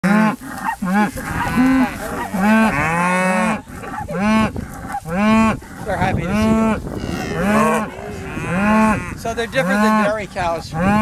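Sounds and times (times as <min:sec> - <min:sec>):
cows mooing: 0:00.0 - 0:11.0.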